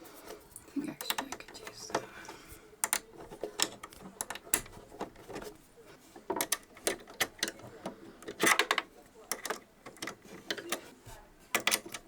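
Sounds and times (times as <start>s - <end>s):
plastic and metal parts clicking: 1.0s - 5.6s, 6.2s - 10.9s, 11.5s - 12.0s.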